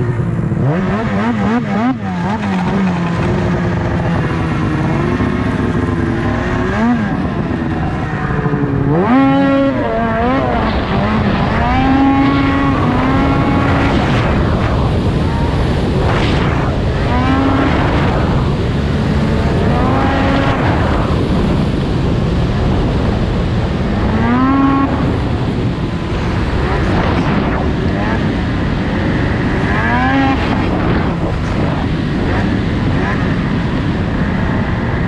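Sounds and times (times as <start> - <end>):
snowmobile engine revving: 0.0 - 35.0
track and wind noise: 0.0 - 35.0.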